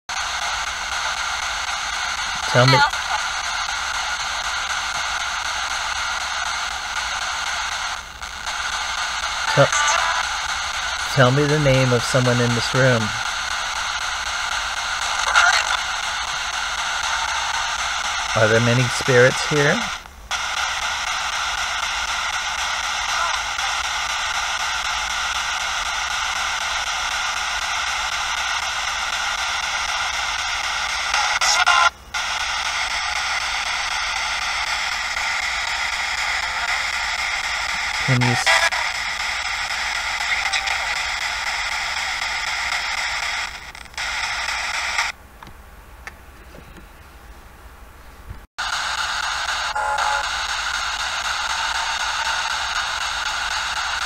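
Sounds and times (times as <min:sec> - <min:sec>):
radio white-noise static: 0:00.1 - 0:45.2, 0:48.6 - 0:54.0.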